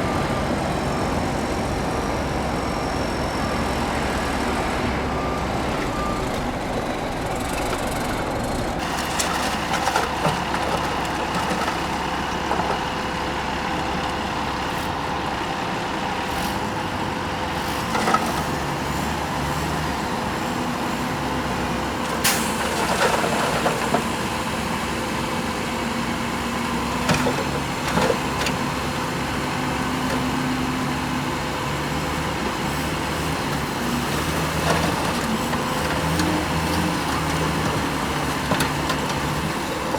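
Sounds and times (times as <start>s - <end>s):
diesel machinery engine under load: 0.0s - 39.9s.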